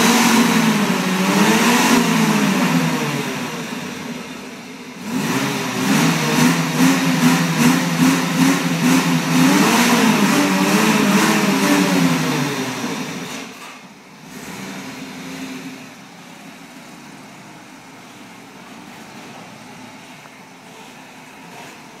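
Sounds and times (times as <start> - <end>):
car engine revving and idling: 0.0 - 22.0.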